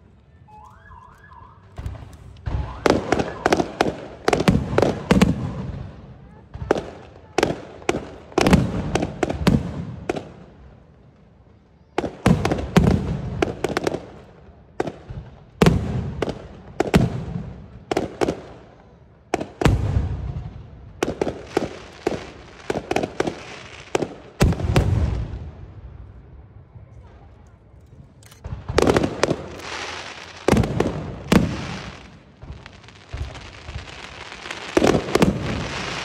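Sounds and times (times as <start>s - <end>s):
fireworks bursting with sharp bangs: 0.4s - 11.1s, 11.9s - 36.0s.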